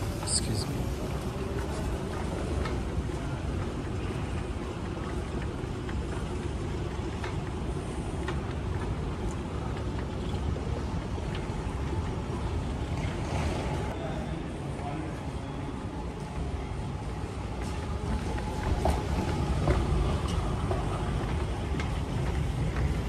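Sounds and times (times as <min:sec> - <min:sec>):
moving walkway rumble and hum: 0:00.0 - 0:14.0, 0:15.7 - 0:23.0.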